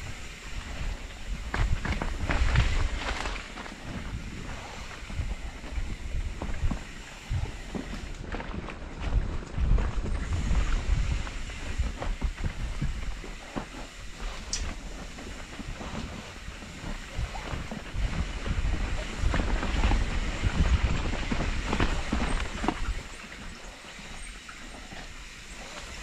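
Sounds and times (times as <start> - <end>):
bike knocking and rattling: 0.0 - 26.0
bike tyre rumble: 0.0 - 26.0
wind rushing over microphone: 0.0 - 26.0.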